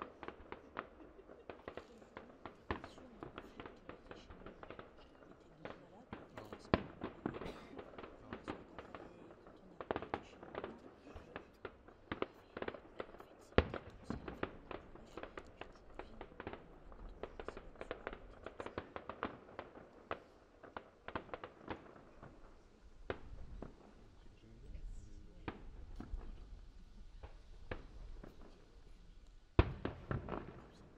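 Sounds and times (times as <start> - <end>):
distant fireworks bangs and pops: 0.0 - 30.9.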